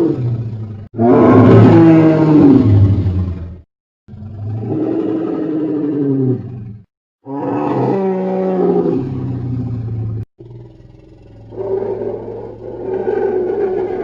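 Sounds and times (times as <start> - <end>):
dinosaur roar: 1.0 - 14.0.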